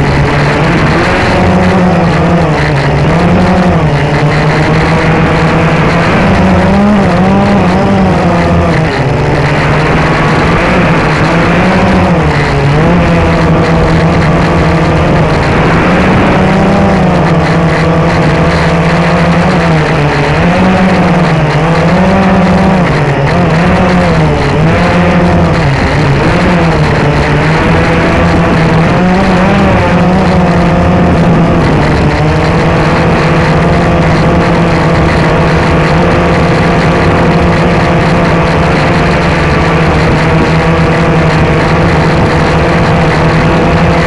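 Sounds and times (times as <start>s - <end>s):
quadcopter motors and propellers: 0.0s - 44.0s.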